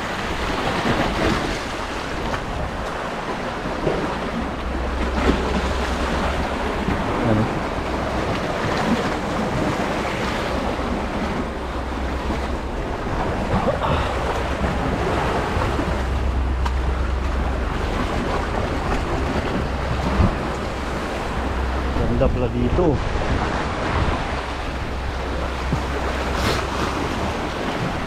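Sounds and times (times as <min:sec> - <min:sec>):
sea water washing: 0:00.0 - 0:28.0
wind buffeting microphone: 0:00.0 - 0:28.0
low rumble: 0:01.3 - 0:28.0.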